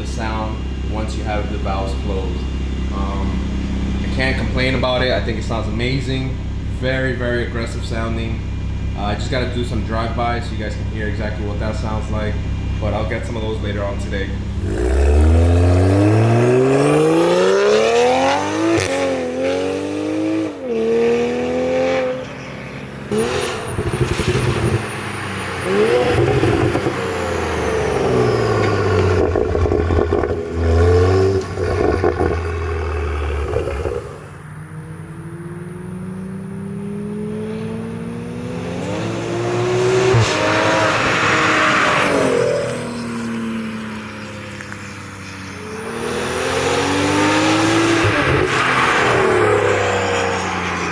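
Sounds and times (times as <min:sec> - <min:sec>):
car engine accelerating hard: 0:00.0 - 0:50.9.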